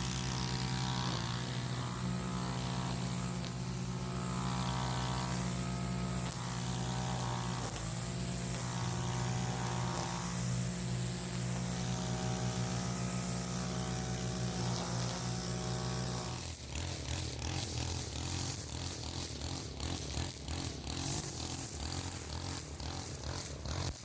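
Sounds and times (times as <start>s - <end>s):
small gas engine running: 0.0s - 24.0s.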